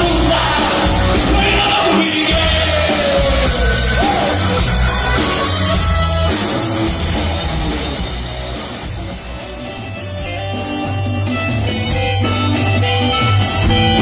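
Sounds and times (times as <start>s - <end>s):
band music: 0.0s - 14.0s
drum kit and bass beat: 0.0s - 14.0s.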